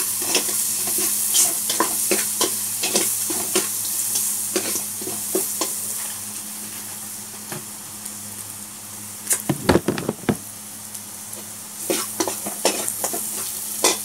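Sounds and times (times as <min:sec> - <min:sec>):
vegetables sizzling in oil: 0:00.0 - 0:08.4, 0:10.8 - 0:14.0.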